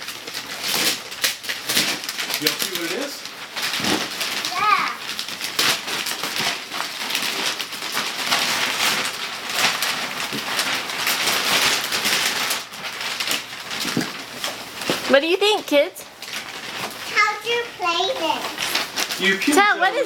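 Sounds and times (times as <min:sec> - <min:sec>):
wrapping paper tearing and crumpling: 0:00.0 - 0:20.0.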